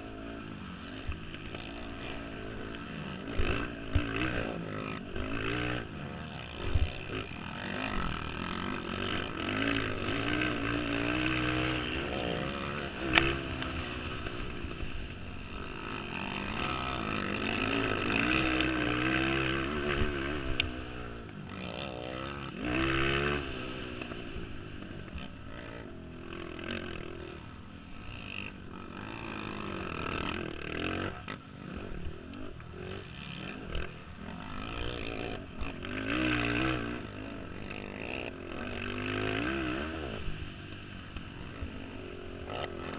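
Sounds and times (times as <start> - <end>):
quad engines revving: 0.0 - 42.9.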